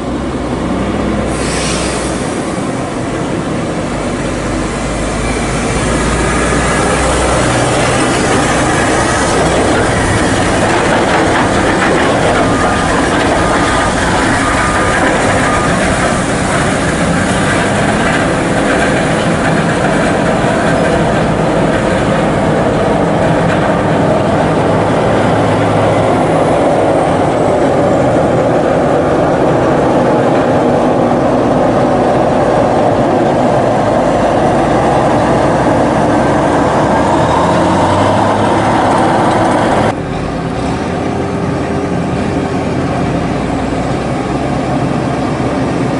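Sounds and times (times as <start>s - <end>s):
heavy truck engine and tyre noise: 0.0s - 45.9s.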